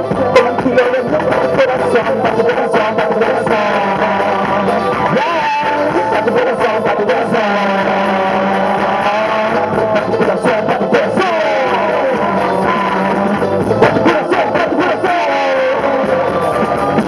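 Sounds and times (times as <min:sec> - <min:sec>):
reggae band playing: 0:00.0 - 0:17.0
sliding lead melody: 0:00.0 - 0:17.0.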